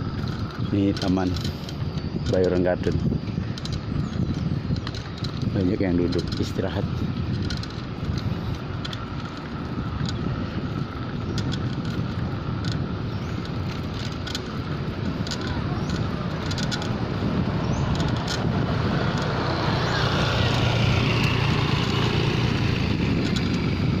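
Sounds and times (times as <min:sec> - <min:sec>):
road noise rumble: 0:00.0 - 0:24.0.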